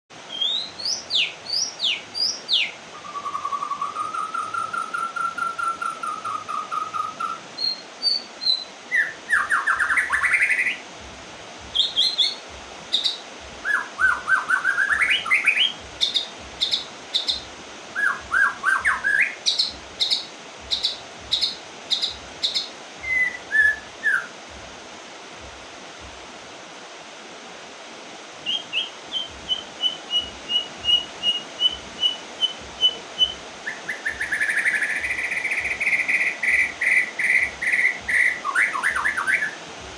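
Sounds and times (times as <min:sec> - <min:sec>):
steady hiss: 0:00.1 - 0:39.9
bird singing whistled phrases: 0:00.3 - 0:10.8, 0:11.7 - 0:24.4, 0:28.4 - 0:39.6.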